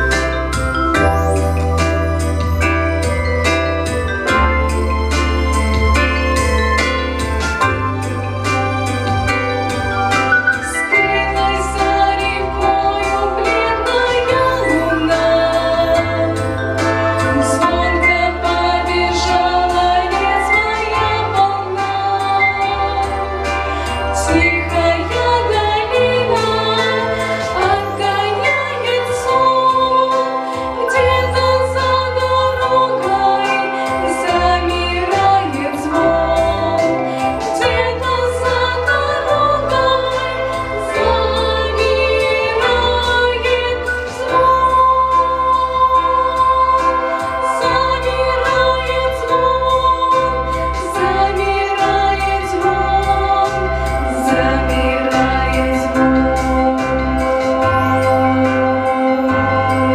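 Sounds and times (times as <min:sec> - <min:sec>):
instrumental accompaniment: 0:00.0 - 0:59.9
women singing a duet: 0:10.6 - 0:59.9.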